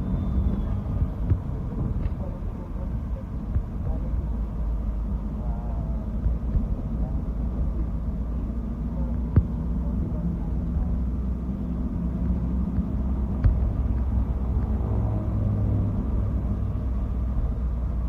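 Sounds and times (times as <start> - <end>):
bus rumbling: 0.0 - 18.0.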